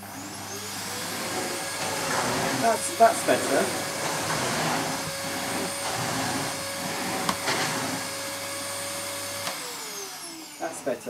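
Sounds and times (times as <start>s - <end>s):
vacuum cleaner on carpet: 0.0s - 11.0s
vacuum motor winding down: 0.0s - 11.0s.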